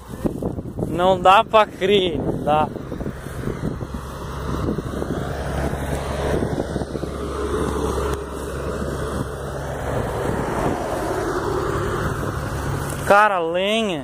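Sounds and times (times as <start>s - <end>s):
wind on microphone: 0.0s - 13.1s
heavy trucks passing: 0.0s - 14.0s
highway traffic drone: 0.0s - 14.0s.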